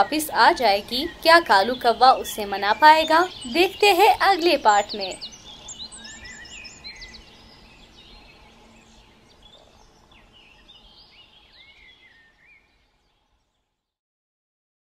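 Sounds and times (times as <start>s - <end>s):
faint bird chirps: 0.0s - 13.8s.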